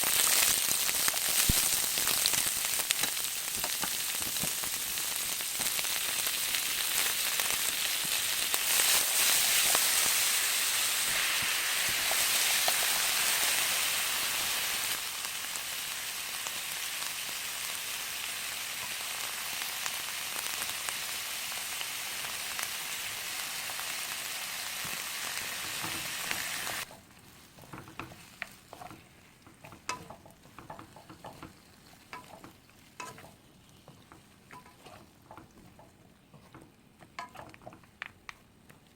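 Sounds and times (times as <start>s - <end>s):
food sizzling in a pan: 0.0s - 37.8s.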